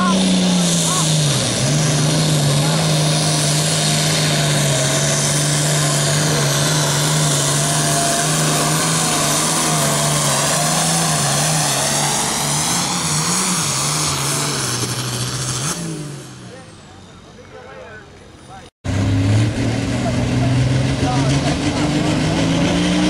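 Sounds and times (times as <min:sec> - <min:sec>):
diesel tractor engine at full throttle: 0:00.0 - 0:17.6, 0:18.8 - 0:23.0.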